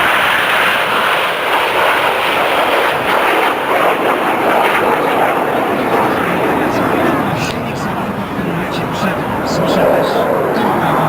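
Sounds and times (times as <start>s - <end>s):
jet noise: 0.0s - 11.0s.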